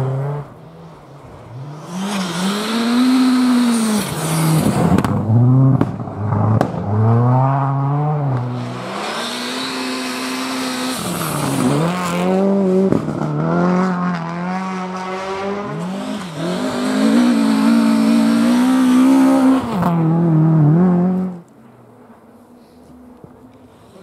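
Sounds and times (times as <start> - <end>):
rally car engines at full throttle: 0.0 - 24.0.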